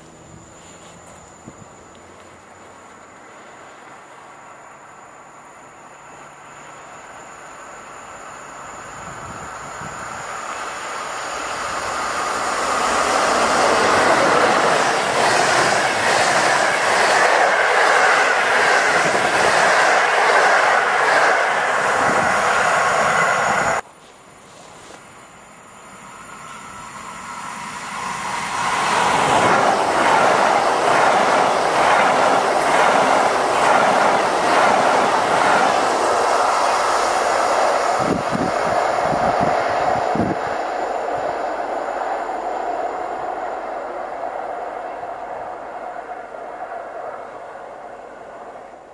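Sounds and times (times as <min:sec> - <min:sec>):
high-speed electric train passing: 0:00.0 - 0:48.9
passenger train passing: 0:00.0 - 0:48.9.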